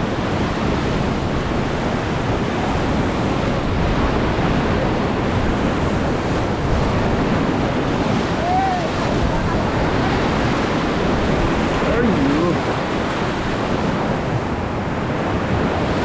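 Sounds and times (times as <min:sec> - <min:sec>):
river water rushing: 0:00.0 - 0:16.0
wind buffeting microphone: 0:00.0 - 0:16.0.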